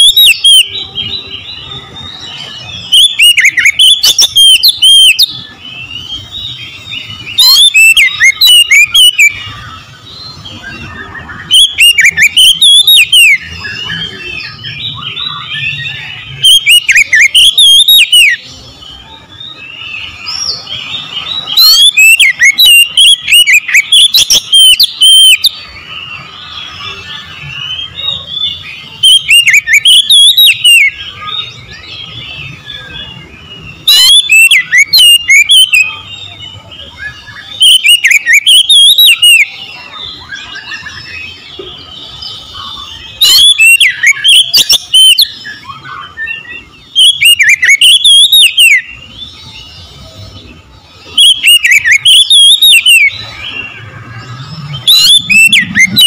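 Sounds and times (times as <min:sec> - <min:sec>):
bird singing loud song phrases: 0:00.0 - 0:56.0
soft bird twittering: 0:00.0 - 0:56.0.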